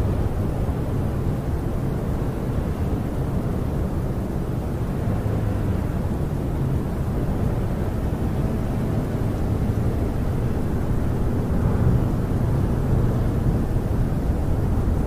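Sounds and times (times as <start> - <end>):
wind rumbling against camper: 0.0 - 15.0.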